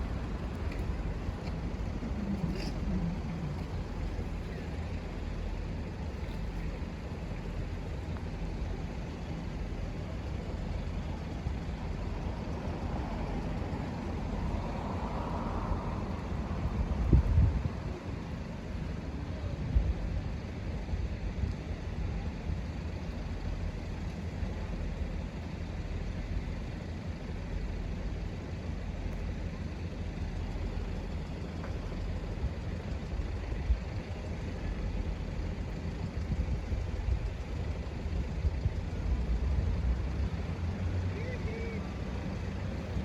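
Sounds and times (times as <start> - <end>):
low outdoor rumble: 0.0 - 43.0.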